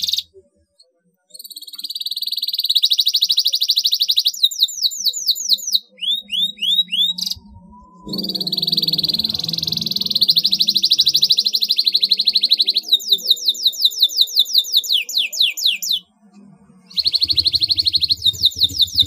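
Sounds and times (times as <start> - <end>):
canary singing trills: 0.0 - 0.4, 1.3 - 16.2, 16.9 - 19.0.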